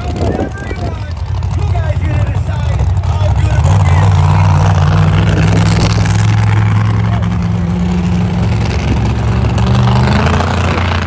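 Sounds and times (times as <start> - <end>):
monster truck engine running: 0.0 - 11.0.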